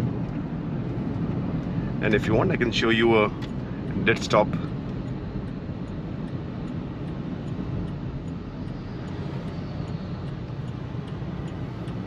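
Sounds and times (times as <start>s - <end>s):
low rumble of engine and tyres: 0.0s - 12.0s
turn signal ticking: 0.1s - 12.0s.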